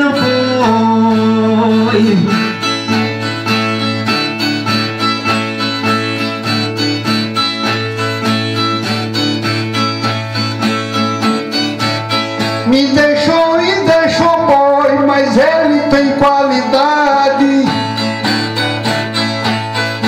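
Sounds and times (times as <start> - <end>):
ten-string guitar plucked notes: 0.0 - 20.0.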